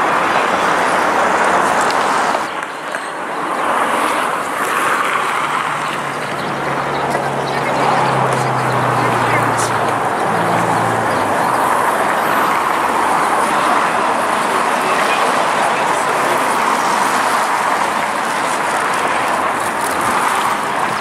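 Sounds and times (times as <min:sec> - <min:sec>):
loud street noise: 0:00.0 - 0:21.0.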